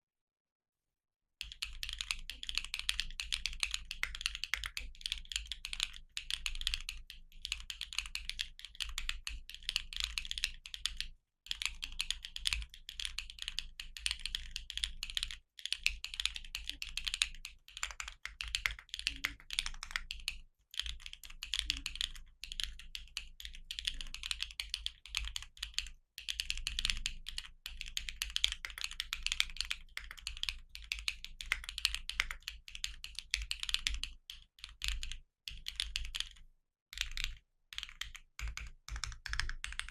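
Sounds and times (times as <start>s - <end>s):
mechanical keyboard typing: 1.4s - 36.4s, 37.0s - 39.9s.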